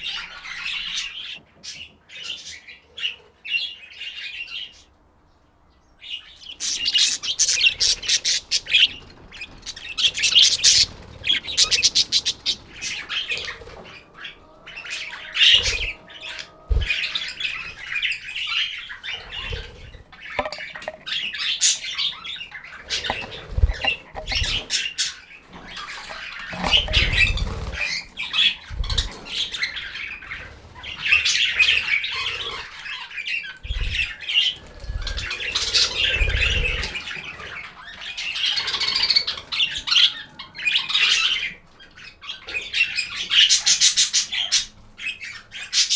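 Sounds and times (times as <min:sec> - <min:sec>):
budgerigars chirping and squawking: 0:00.0 - 0:04.9, 0:06.0 - 0:45.9.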